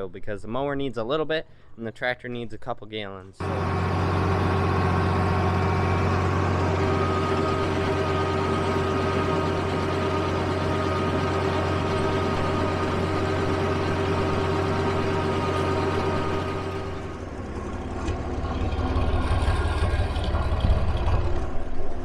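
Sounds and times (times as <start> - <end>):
tractor engine running: 3.4 - 22.0.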